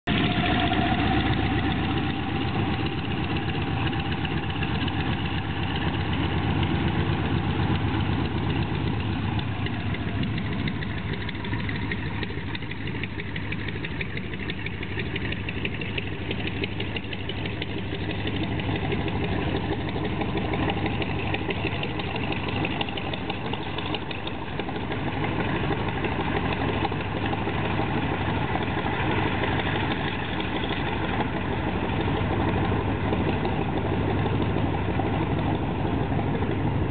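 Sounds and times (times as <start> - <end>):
radial aircraft engine running: 0.0 - 36.9.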